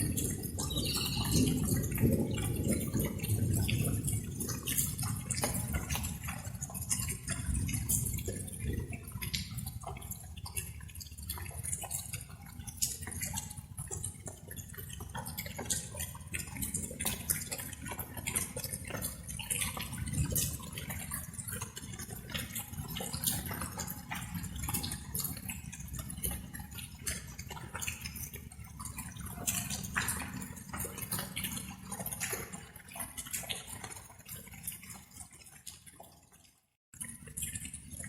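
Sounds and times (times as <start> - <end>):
rain drops dripping: 0.0 - 38.0.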